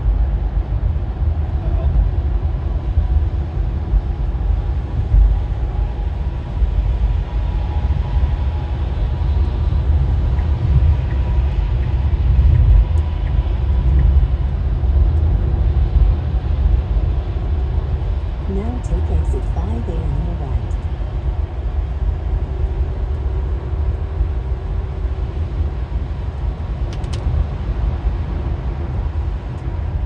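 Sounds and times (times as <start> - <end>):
tyre and wind road noise: 0.0 - 30.0.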